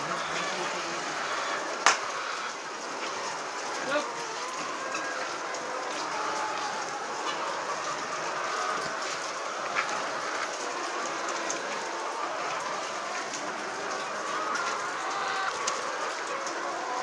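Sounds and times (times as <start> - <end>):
flock of chickens calling: 0.0 - 17.0.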